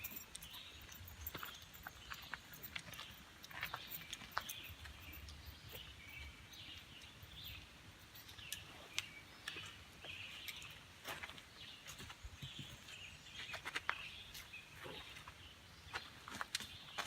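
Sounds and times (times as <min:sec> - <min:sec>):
footsteps on a trail: 0:00.0 - 0:07.6, 0:08.3 - 0:17.0
faint birdsong: 0:00.0 - 0:17.0.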